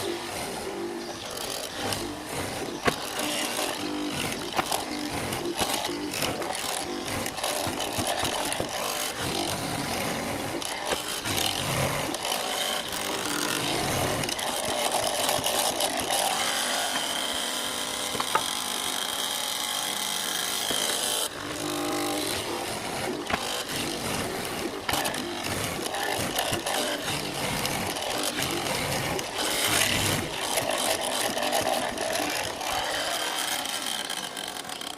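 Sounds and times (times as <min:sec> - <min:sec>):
power tool whine: 0:00.0 - 0:34.9.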